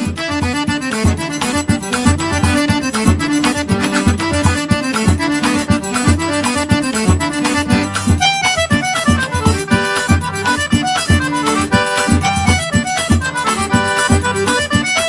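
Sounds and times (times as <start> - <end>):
accordion music with steady beat: 0.0 - 15.0.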